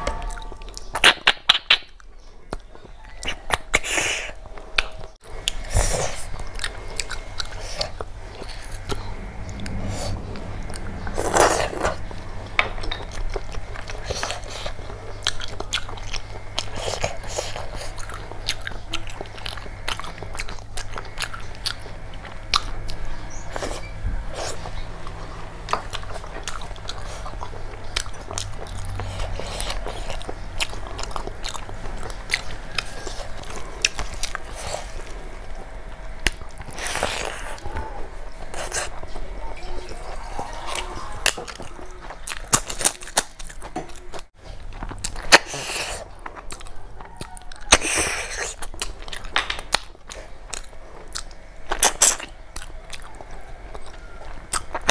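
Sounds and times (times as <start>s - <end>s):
faint low hum: 0.0s - 54.9s
sucking and chewing snails: 0.0s - 54.9s.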